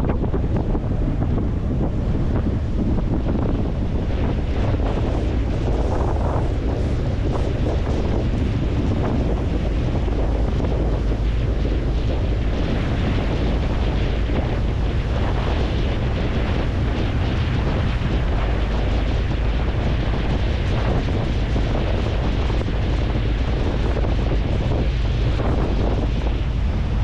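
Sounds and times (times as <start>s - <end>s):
low rumble: 0.0s - 27.0s
wind buffeting microphone: 0.0s - 27.0s.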